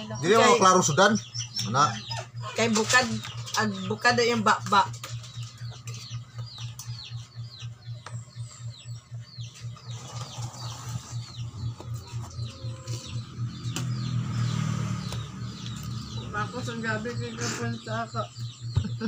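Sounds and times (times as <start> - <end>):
bird chirping: 0.0 - 19.0
low throbbing hum: 0.0 - 19.0.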